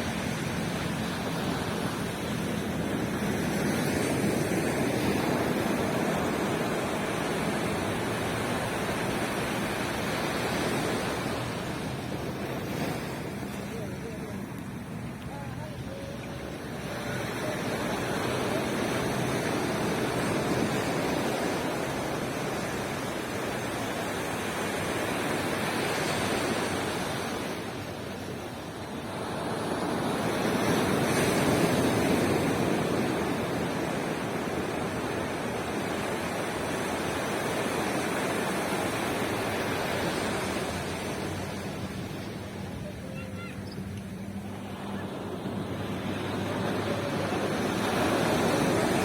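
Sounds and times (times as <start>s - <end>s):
ocean surf washing on beach: 0.0s - 49.0s.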